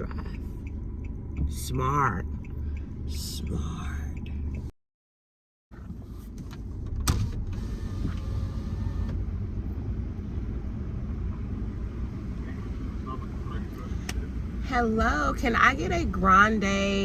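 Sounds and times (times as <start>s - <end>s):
car and road rumble: 0.0s - 4.7s, 5.7s - 17.0s.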